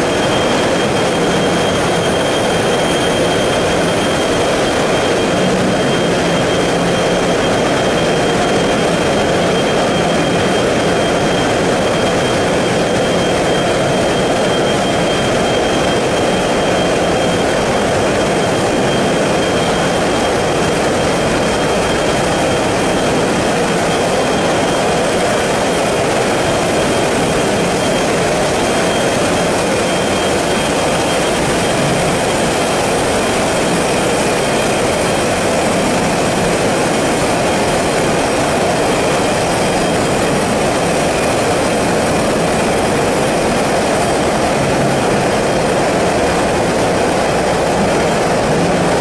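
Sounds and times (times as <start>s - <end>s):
faint high whine: 0.0s - 49.0s.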